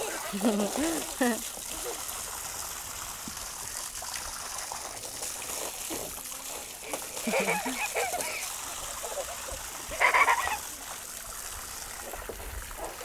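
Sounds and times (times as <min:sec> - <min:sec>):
hose spraying water into pool: 0:00.0 - 0:13.0.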